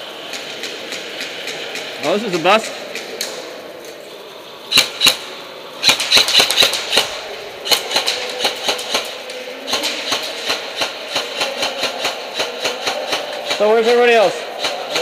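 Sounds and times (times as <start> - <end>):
sharp clicks and knocks in hall: 0.0 - 15.0.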